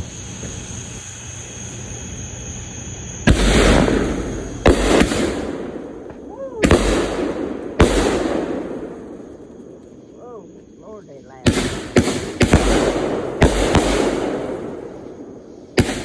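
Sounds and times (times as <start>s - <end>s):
firework rumble: 0.0s - 16.0s
firework shots: 0.0s - 16.0s.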